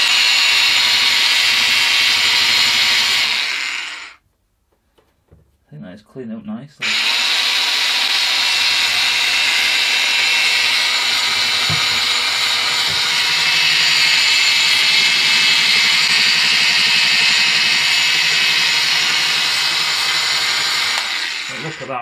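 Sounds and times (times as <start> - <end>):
belt sander whining: 0.0 - 4.2, 6.8 - 22.0.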